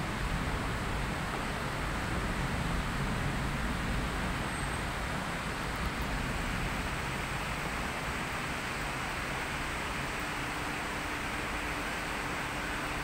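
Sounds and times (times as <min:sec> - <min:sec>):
heavy rain downpour: 0:00.0 - 0:13.0.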